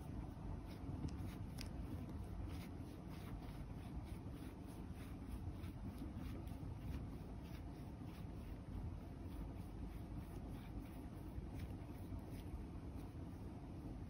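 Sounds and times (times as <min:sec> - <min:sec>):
roller rubbing through fur: 0:00.0 - 0:14.0.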